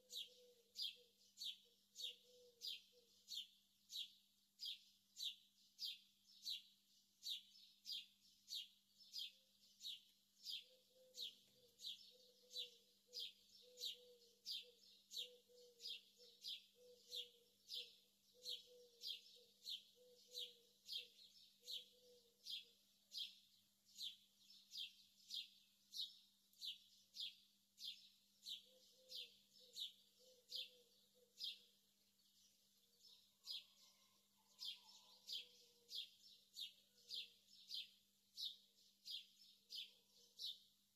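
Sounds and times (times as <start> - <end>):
small bird chirping: 0.0 - 40.9.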